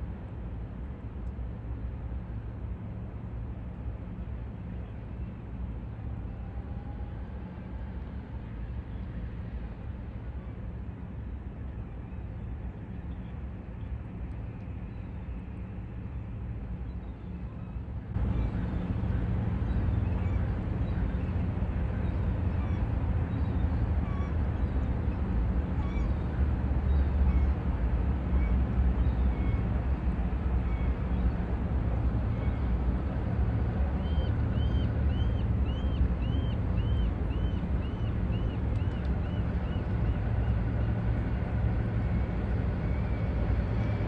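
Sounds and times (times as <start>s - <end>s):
boat engines droning: 0.0s - 44.0s.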